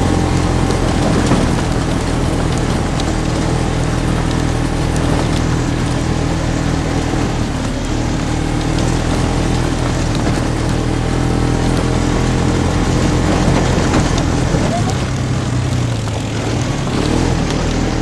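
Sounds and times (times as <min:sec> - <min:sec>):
vehicle engine running: 0:00.0 - 0:18.0
wind and terrain noise: 0:00.0 - 0:18.0.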